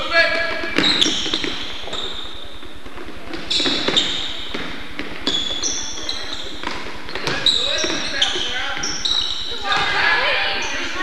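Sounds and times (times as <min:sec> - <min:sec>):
sneakers squeaking on court: 0:00.0 - 0:11.0
basketballs bouncing on wooden floor: 0:00.3 - 0:10.8.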